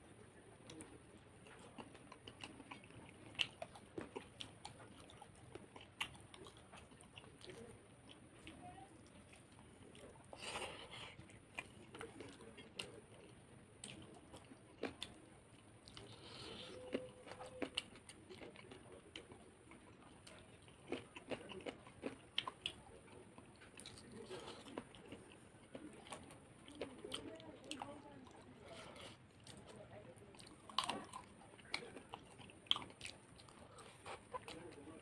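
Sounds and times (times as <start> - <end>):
fingers squishing rice and curry: 0.1 - 35.0
chewing and biting: 0.6 - 35.0.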